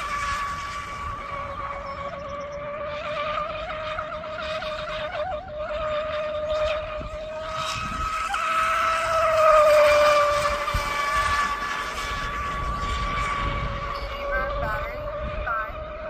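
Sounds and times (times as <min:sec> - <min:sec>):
rc boat motor whine: 0:00.0 - 0:16.0.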